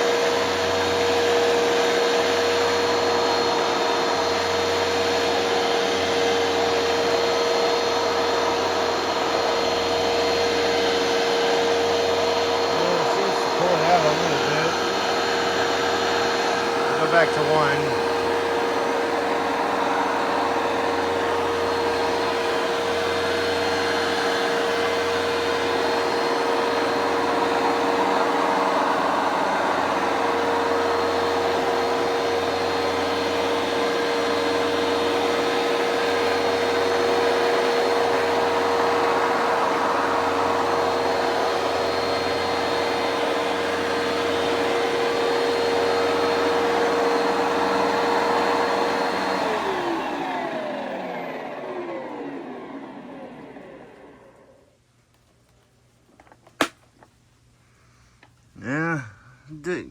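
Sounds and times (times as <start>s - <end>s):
carpet cleaner running: 0.0s - 55.4s, 56.1s - 57.1s.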